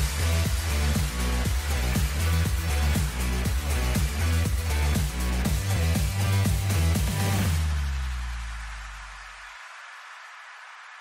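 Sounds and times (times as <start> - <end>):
background music: 0.0 - 9.7.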